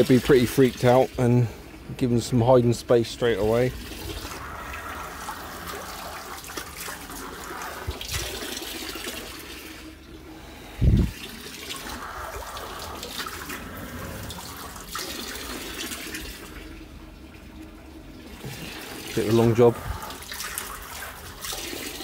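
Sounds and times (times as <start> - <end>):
water splashing from hose: 0.0 - 1.4, 3.1 - 10.0, 10.8 - 16.8, 18.2 - 22.0.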